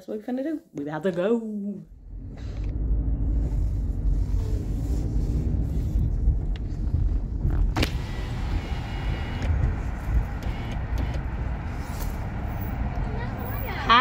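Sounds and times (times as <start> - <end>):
car cabin rumble: 2.0 - 14.0.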